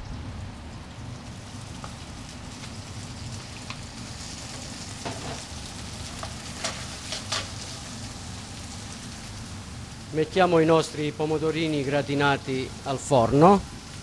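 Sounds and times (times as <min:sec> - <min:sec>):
sausage sizzling in a pan: 0:01.2 - 0:14.0.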